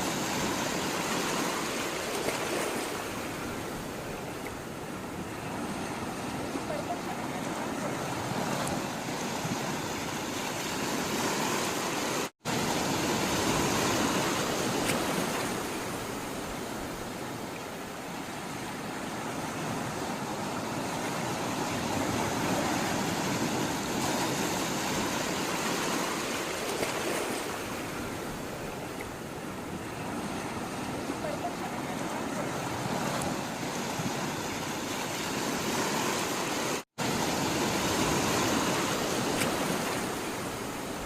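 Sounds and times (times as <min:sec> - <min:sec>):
sea water rushing: 0:00.0 - 0:41.0.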